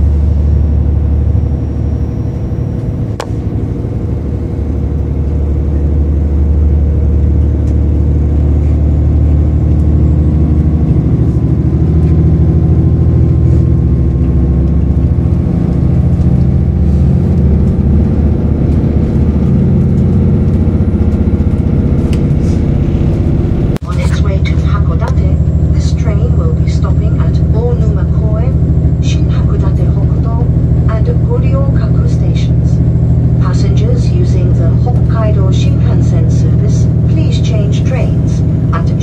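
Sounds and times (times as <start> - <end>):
train engine drone: 0.0 - 39.0
wheels rumbling on rails: 0.0 - 39.0.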